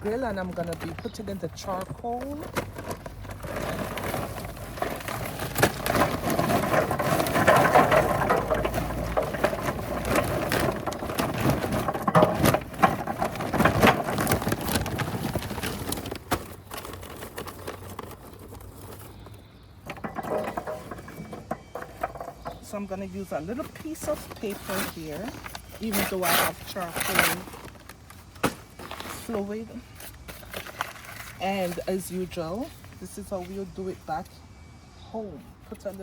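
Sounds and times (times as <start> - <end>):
charcoal lumps clattering: 0.0 - 34.2.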